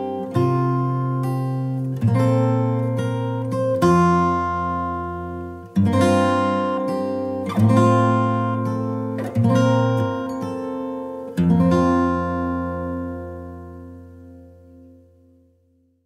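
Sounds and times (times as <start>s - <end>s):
acoustic guitar strumming: 0.0s - 15.6s.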